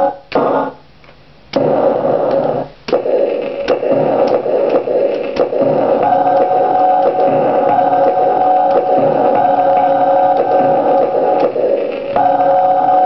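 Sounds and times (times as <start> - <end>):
harsh buzzing synth drone: 1.6 - 13.0
steady synth tones: 1.6 - 13.0.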